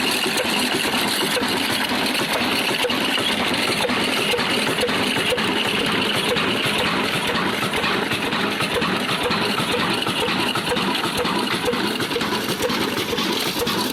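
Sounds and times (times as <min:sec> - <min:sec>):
diesel engine knocking: 0:00.0 - 0:13.9.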